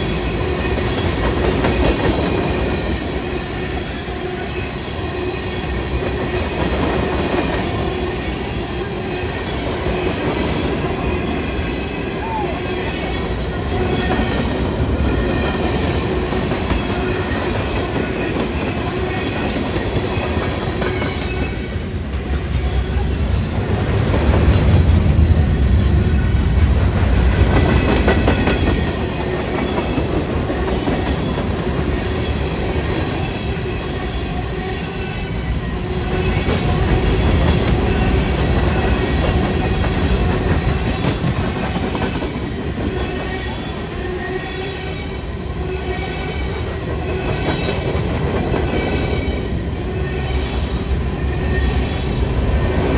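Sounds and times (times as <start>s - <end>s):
train wheels clattering over rails: 0.0s - 12.0s, 13.0s - 34.9s, 35.8s - 45.2s, 46.0s - 52.9s.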